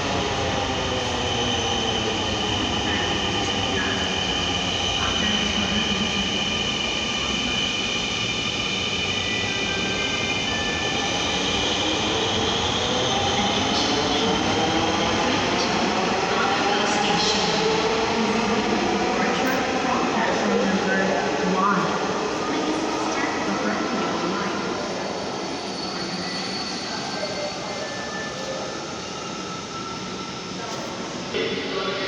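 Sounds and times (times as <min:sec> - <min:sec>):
metro train running: 0:00.0 - 0:32.0.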